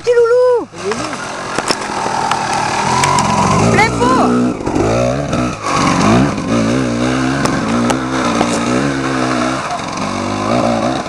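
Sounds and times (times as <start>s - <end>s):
two-stroke motorcycle revving: 0.7s - 11.0s.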